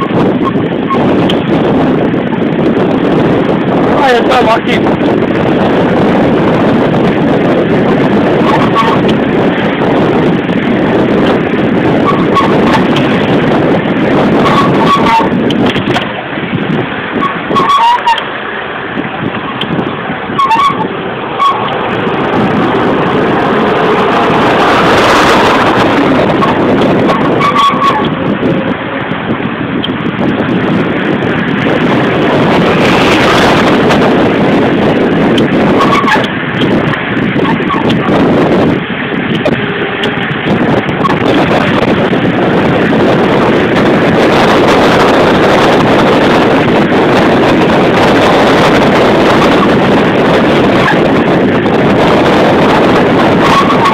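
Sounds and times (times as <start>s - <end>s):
street traffic: 0.0s - 53.9s
wind buffeting microphone: 0.0s - 53.9s.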